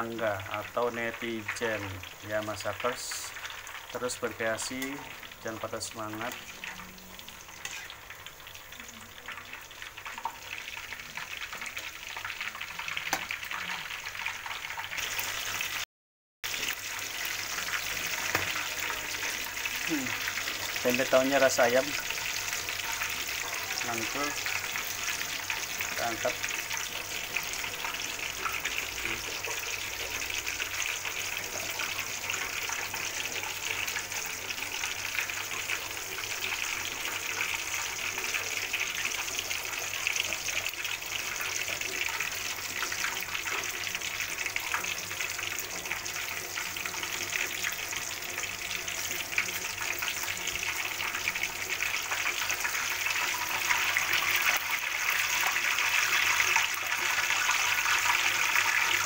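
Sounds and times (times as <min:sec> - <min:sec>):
deep-frying sizzle and crackling: 0:00.0 - 0:59.0.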